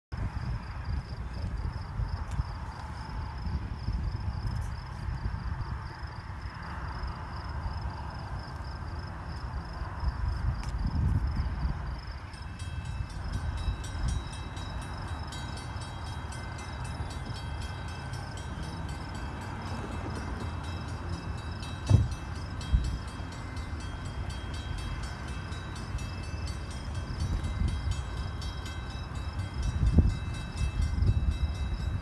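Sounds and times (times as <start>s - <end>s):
train rumbling: 0.2s - 32.0s.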